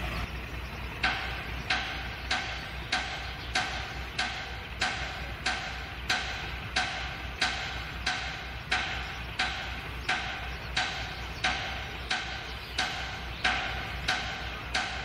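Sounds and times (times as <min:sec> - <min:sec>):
diesel locomotive idling: 0:00.0 - 0:15.0
sharp ticks: 0:00.3 - 0:15.0.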